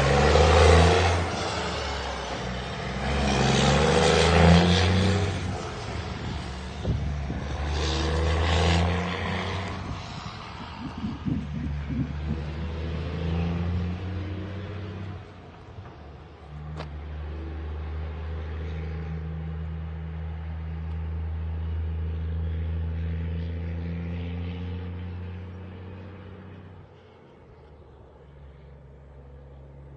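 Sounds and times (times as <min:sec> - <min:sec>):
engine humming: 0:00.0 - 0:29.9.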